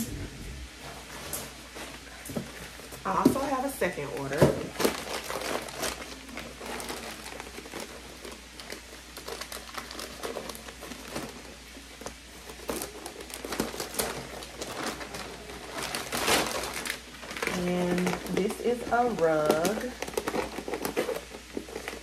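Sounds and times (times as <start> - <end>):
plastic bag crinkling: 2.6 - 22.0.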